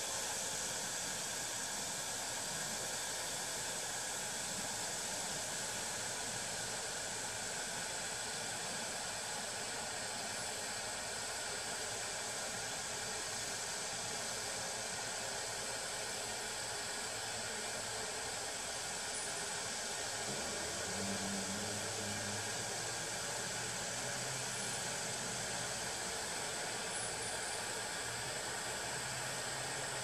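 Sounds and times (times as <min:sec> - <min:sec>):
faint motor hum: 0:00.0 - 0:30.0
steady hiss: 0:00.0 - 0:30.0.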